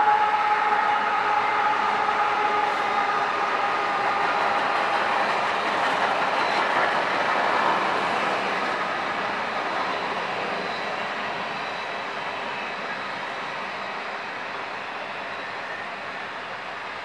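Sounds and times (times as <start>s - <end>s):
freight cars wheel and rail noise: 0.0s - 17.0s.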